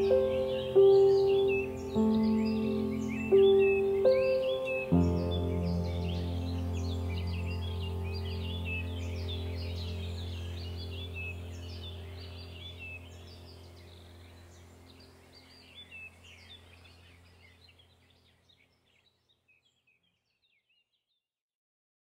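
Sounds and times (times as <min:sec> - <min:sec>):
steady low hum: 0:00.0 - 0:18.1
small birds chirping: 0:00.0 - 0:21.2.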